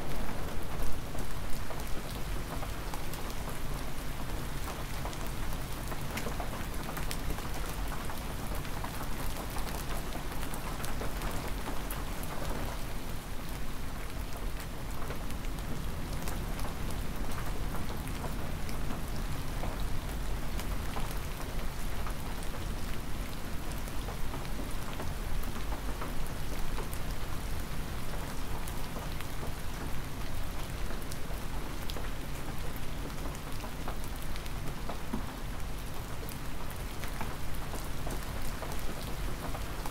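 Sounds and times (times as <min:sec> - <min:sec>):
rain falling: 0:00.0 - 0:39.9
raindrops ticking on surfaces: 0:00.0 - 0:39.9.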